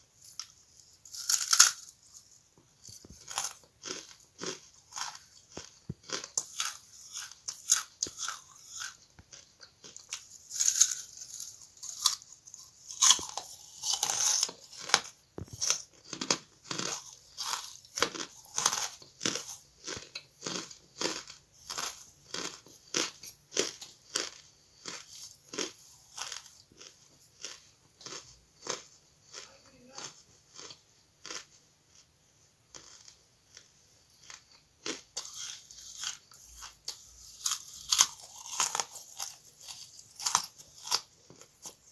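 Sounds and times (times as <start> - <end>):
person chewing charcoal crunches: 0.1 - 41.9.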